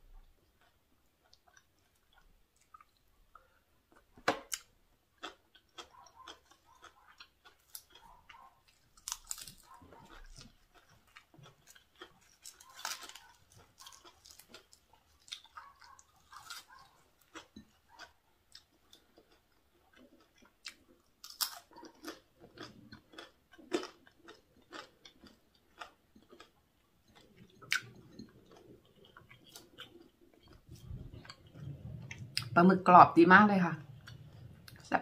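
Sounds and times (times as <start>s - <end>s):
chewing crunches: 0.1s - 32.6s, 33.8s - 34.9s.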